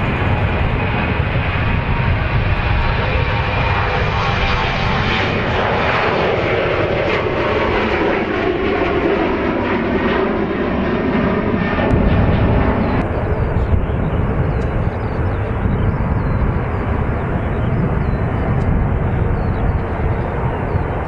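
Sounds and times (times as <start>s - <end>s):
airliner engines rumbling: 0.0s - 21.0s.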